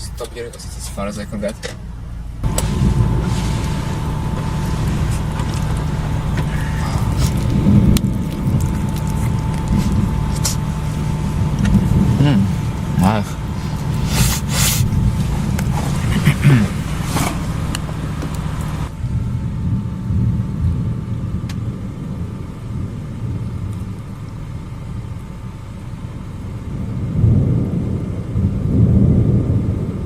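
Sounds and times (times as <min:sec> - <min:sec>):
car engine idling: 0:00.0 - 0:30.0
thunder rumbling: 0:01.8 - 0:30.0.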